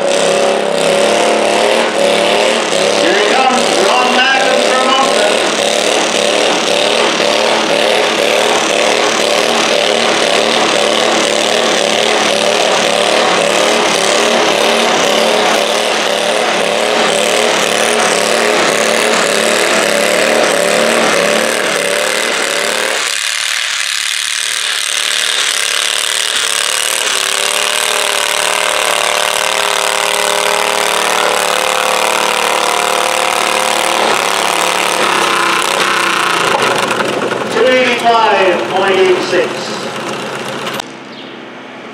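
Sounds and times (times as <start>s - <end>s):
tractor engine running hard: 0.0s - 41.9s.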